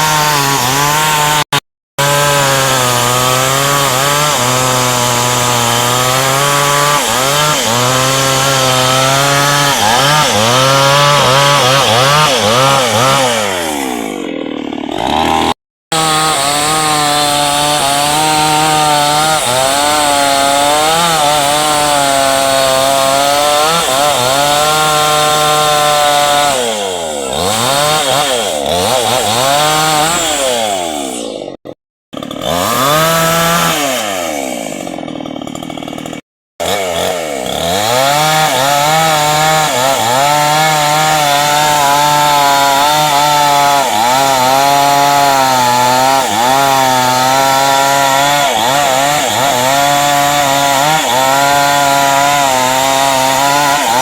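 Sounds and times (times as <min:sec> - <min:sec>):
chainsaw cutting hardwood: 0:00.0 - 0:54.0.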